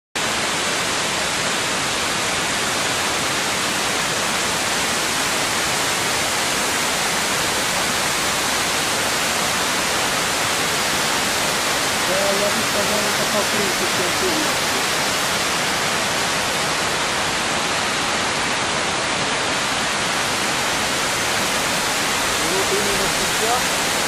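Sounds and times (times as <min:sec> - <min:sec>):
waterfall rushing: 0:00.2 - 0:24.0.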